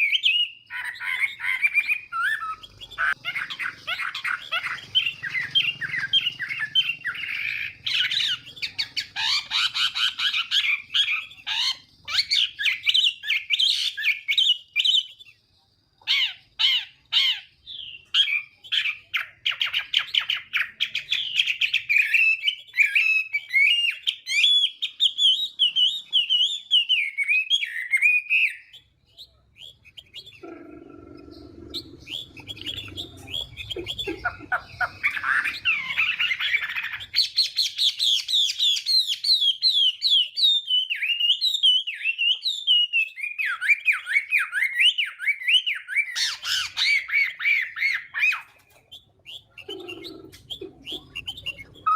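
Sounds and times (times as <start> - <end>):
bird singing warbling phrases: 0.0 - 51.9.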